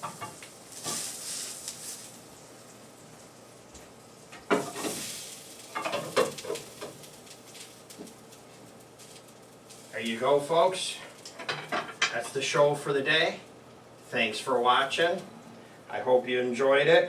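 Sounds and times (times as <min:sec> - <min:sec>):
eggs sizzling in a pan: 0:00.0 - 0:14.9.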